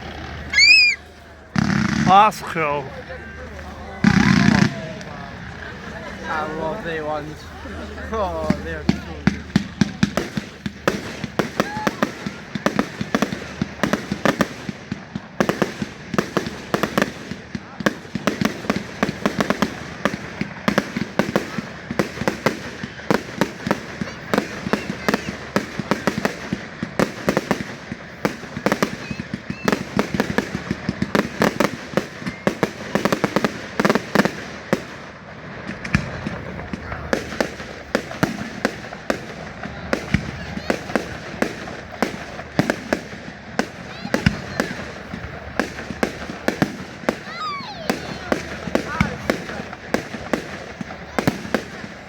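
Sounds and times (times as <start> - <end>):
fireworks bangs and cracks: 0.0 - 52.0.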